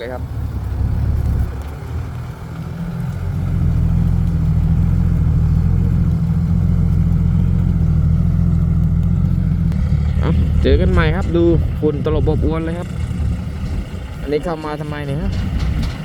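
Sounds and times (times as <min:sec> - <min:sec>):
dump truck diesel engine pulling: 0:00.0 - 0:16.0.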